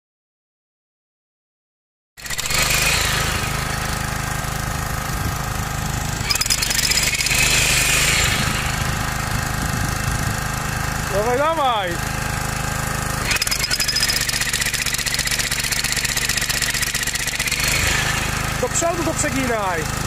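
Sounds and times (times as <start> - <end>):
demolition hammer pounding soil: 2.2 - 20.0.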